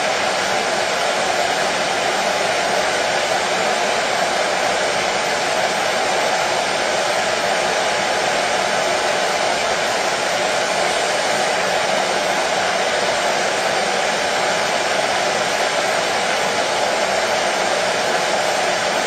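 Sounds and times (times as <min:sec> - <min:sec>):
hair dryer whirring: 0:00.0 - 0:19.0.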